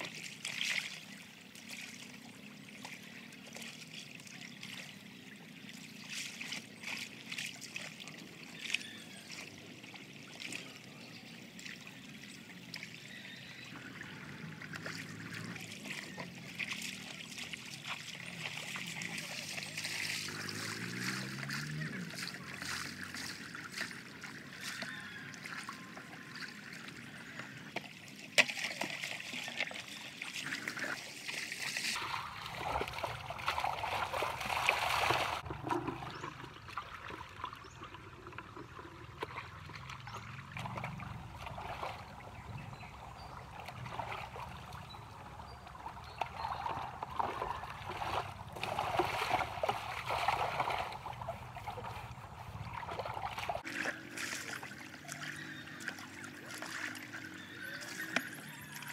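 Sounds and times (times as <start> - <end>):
feet sloshing through water: 0.0 - 58.9
water splashing and trickling: 0.0 - 58.9.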